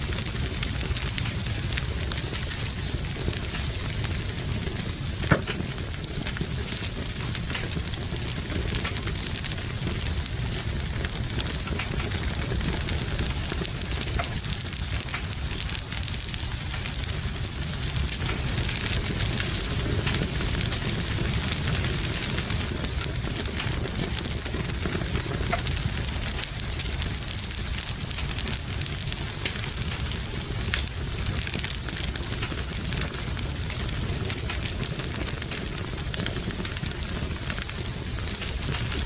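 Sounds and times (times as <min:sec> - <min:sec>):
rain hissing: 0:00.0 - 0:39.0
wood fire crackling: 0:00.0 - 0:39.0.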